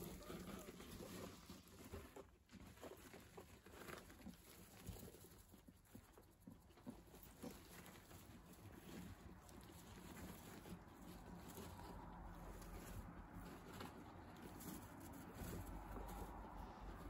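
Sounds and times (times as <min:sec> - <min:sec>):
guinea pigs nibbling hay: 0:00.0 - 0:17.0
rustling in wood shavings: 0:00.0 - 0:17.0.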